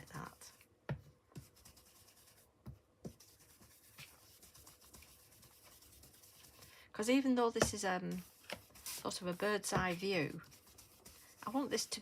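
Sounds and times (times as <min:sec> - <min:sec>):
ink brush dabbing on card: 0:00.1 - 0:06.8, 0:07.4 - 0:12.0.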